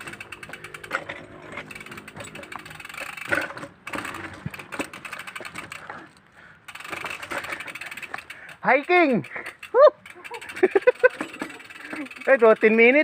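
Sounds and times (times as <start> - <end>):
bicycle freewheel ratchet ticking: 0.0 - 13.0.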